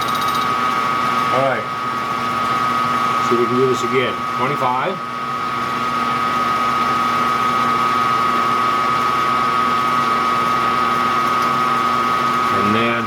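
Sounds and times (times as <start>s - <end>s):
milling machine spindle whine: 0.0s - 13.0s.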